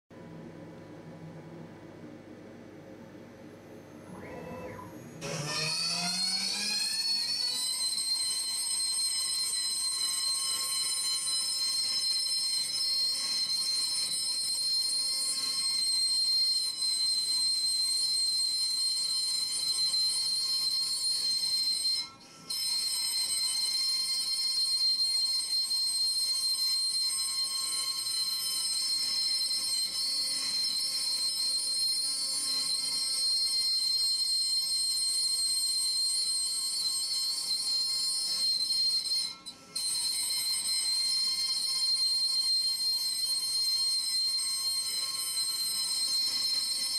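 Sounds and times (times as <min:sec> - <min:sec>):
router spindle high-pitched whine: 0:03.9 - 0:46.9.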